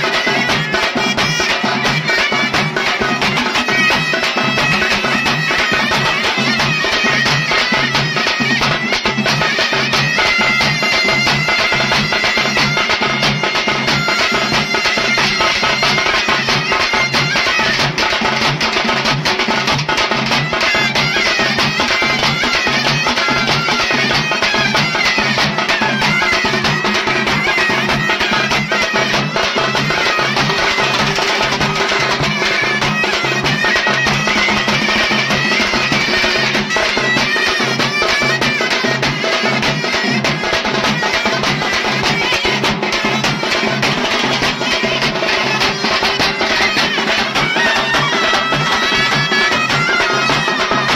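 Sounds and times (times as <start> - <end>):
reedy wind instrument melody: 0.0 - 50.9
steady drum beat: 0.0 - 50.9.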